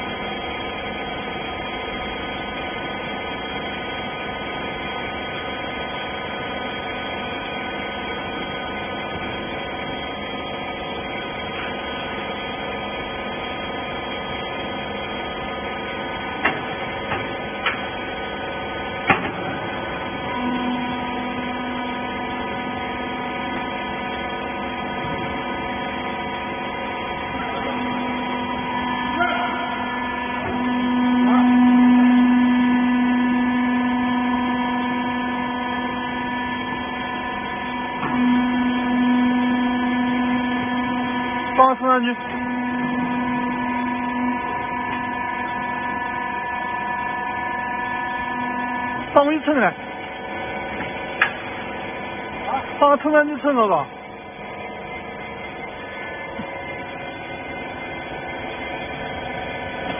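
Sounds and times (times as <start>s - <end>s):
hydraulic power pack humming: 0.0s - 59.9s.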